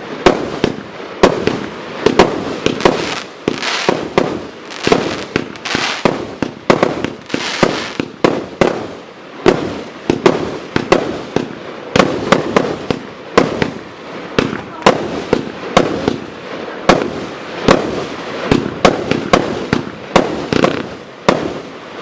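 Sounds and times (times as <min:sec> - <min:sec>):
firework bangs: 0:00.0 - 0:22.0
firework hissing: 0:00.0 - 0:22.0.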